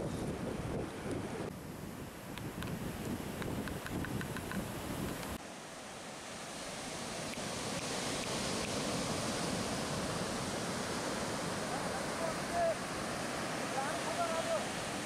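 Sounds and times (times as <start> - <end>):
ocean surf on a beach: 0.0 - 15.0.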